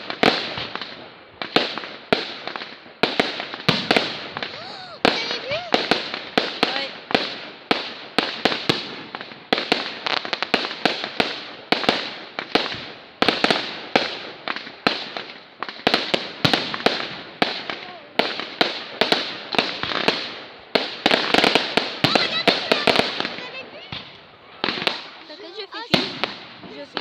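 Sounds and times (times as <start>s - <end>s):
fireworks banging and crackling: 0.0s - 27.0s.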